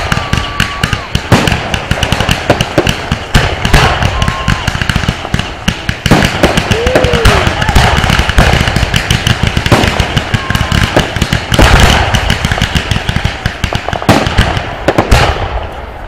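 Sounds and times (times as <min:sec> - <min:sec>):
firework shells bursting: 0:00.0 - 0:15.8
crackling firework stars: 0:00.0 - 0:16.0.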